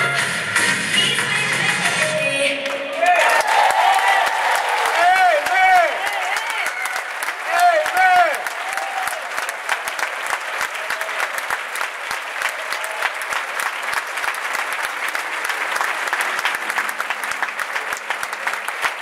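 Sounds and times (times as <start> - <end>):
crowd applauding: 1.6 - 19.0.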